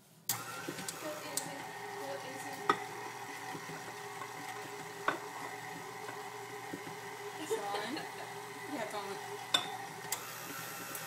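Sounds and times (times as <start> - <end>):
stand mixer running: 0.3 - 11.0.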